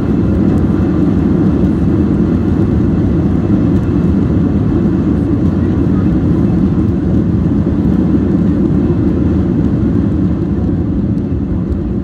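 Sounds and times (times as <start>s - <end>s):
jet engine rumble in cabin: 0.0s - 12.0s.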